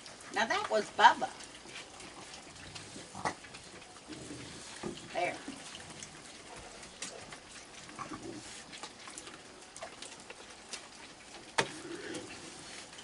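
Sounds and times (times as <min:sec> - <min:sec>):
light taps and patter: 0:00.0 - 0:13.0.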